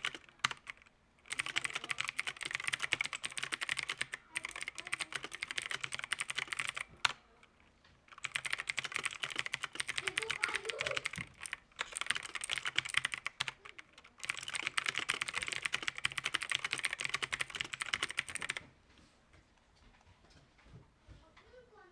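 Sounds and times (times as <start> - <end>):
mechanical keyboard typing: 0.0 - 18.6.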